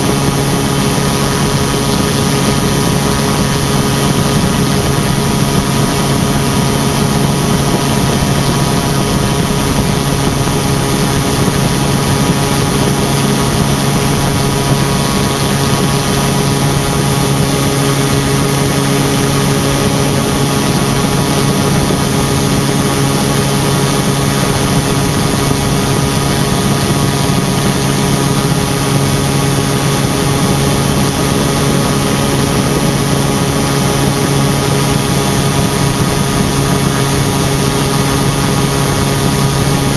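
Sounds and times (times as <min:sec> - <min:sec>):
rush of air: 0:00.0 - 0:39.9
ultralight aircraft engine droning: 0:00.0 - 0:39.9.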